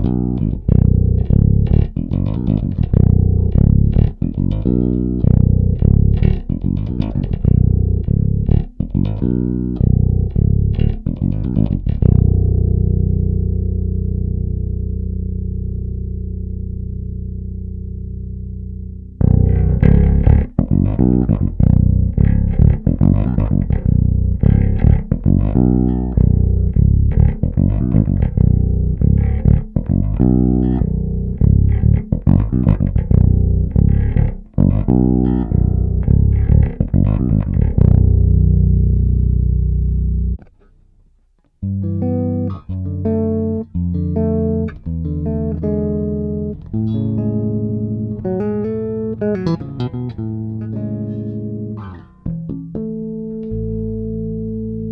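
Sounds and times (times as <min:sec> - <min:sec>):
electric bass playing: 0:00.0 - 0:54.9.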